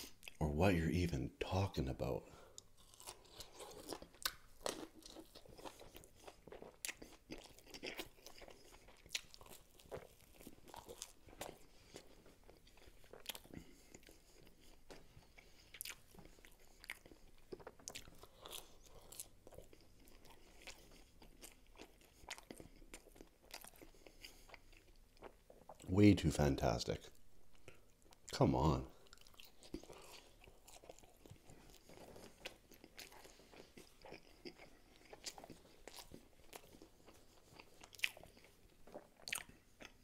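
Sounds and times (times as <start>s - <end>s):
chewing pizza crunches: 1.4s - 26.4s, 27.0s - 40.0s.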